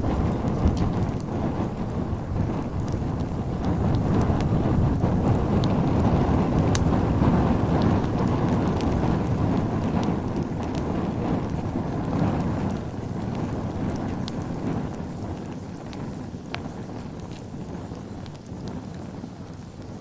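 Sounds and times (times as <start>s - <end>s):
faint crackles and ticks: 0.0s - 20.0s.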